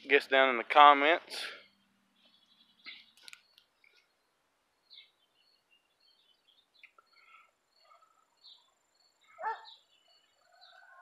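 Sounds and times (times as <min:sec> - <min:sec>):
bird chirps: 0:01.5 - 0:11.0.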